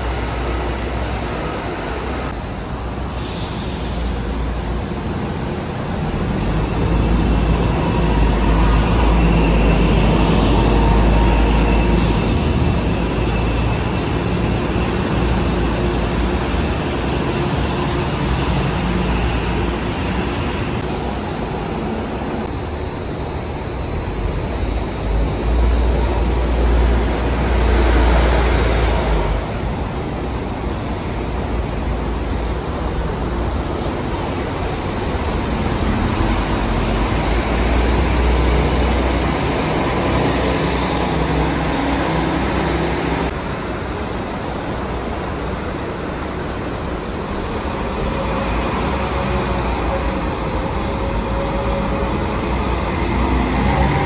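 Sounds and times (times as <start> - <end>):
bus engines rumbling: 0.0 - 54.0
traffic noise: 0.0 - 54.0.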